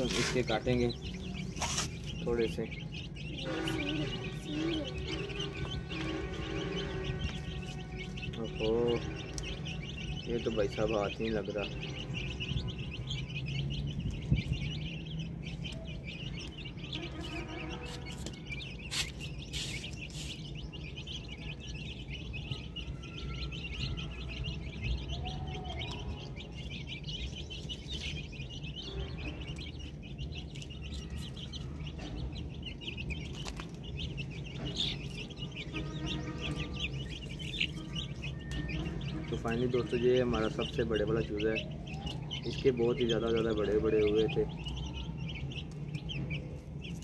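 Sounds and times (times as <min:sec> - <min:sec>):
birds chirping chorus: 0:00.0 - 0:47.0.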